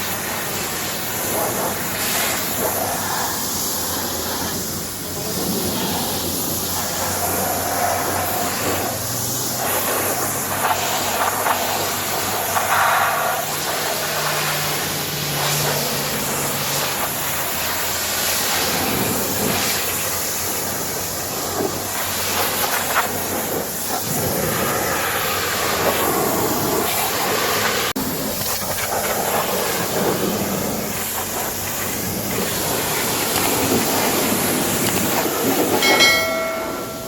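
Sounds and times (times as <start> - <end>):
pressure washer spraying: 0.0 - 37.0.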